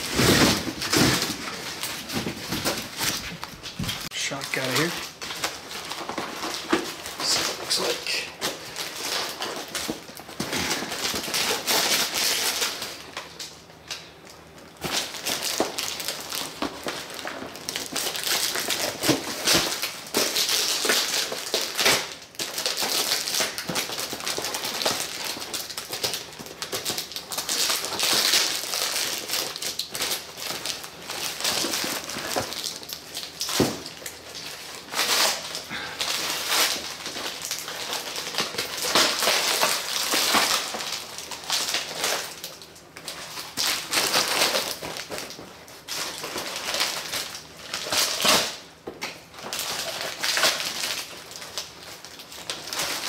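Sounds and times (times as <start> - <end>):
plastic packing wrap crinkling: 0.0 - 53.0.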